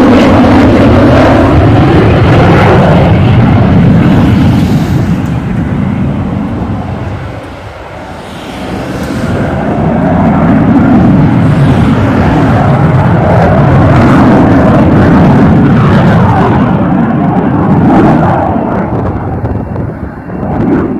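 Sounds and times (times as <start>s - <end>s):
jet flying past: 0.0s - 20.9s.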